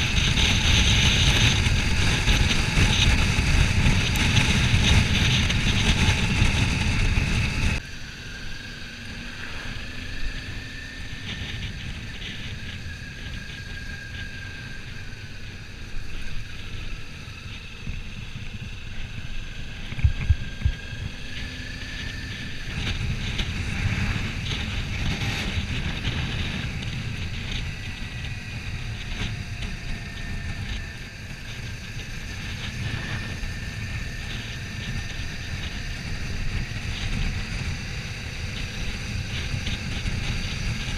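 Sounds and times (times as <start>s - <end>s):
faint motorcycle engine: 0.0s - 40.9s
wind rushing over microphone: 0.0s - 40.9s.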